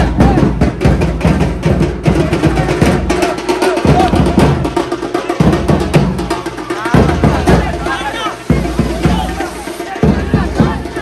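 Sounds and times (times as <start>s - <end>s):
loud drum and percussion music: 0.0s - 11.0s.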